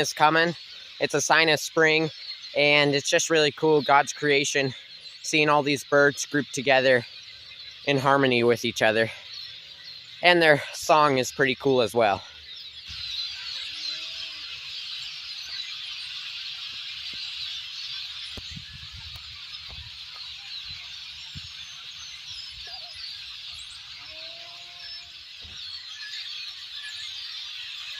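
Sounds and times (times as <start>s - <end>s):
flock of starlings chattering: 0.0s - 27.9s.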